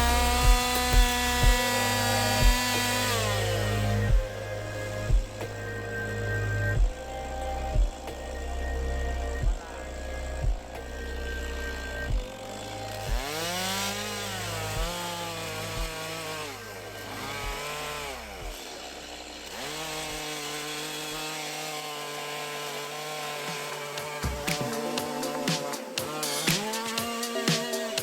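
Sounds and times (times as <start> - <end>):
chainsaw cutting wood: 0.0 - 7.1, 9.4 - 28.0.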